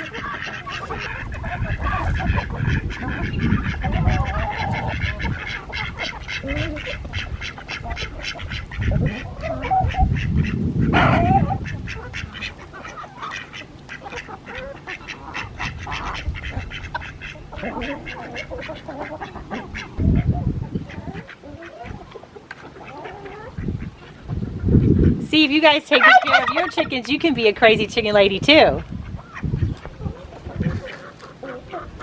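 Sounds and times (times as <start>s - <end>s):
ducks quacking: 0.0s - 32.0s.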